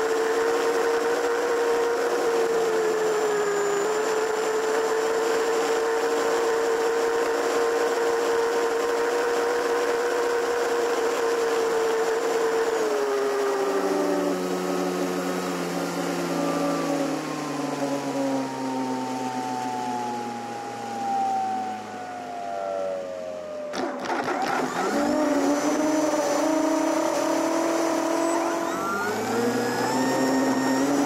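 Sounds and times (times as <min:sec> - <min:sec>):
model airplane electric motor whine: 0:00.0 - 0:31.0.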